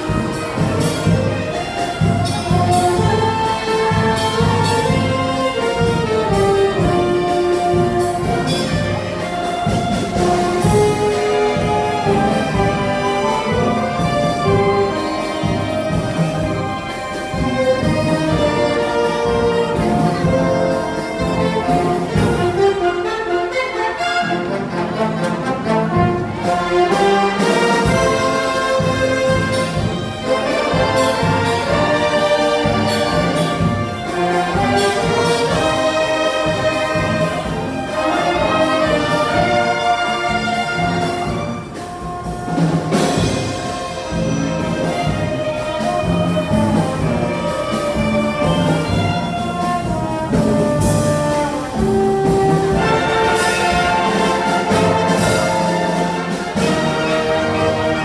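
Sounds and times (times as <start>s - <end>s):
concert band playing cha-cha: 0.0s - 58.0s.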